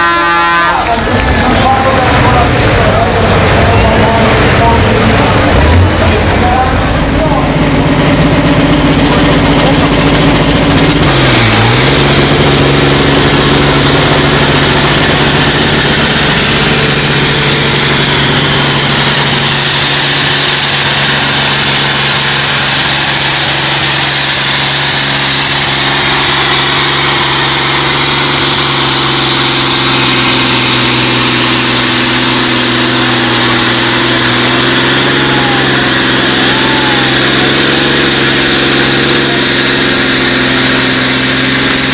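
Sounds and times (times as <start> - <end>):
high whine: 0.0 - 41.9
tractor engine running loud: 0.0 - 41.9.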